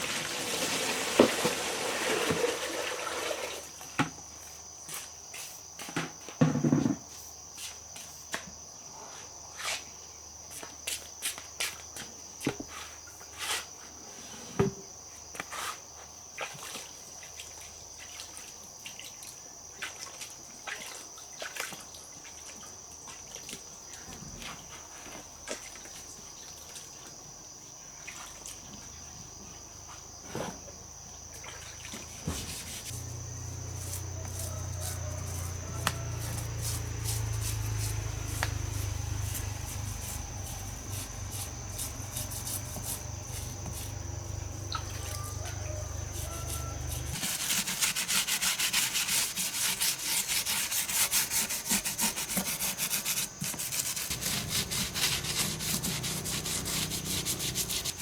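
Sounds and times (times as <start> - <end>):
insects chirring: 0.1 - 58.0.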